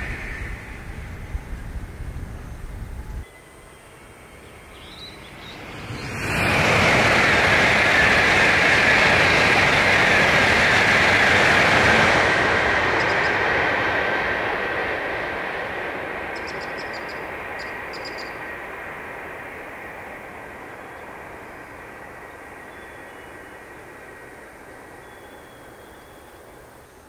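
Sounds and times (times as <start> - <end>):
bullet train passing at speed: 0.0 - 27.0.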